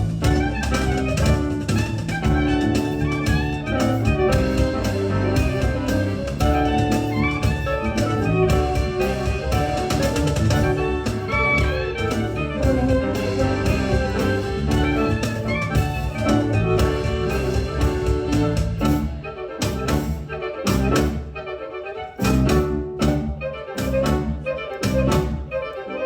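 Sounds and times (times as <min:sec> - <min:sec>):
live ensemble music: 0:00.0 - 0:26.0.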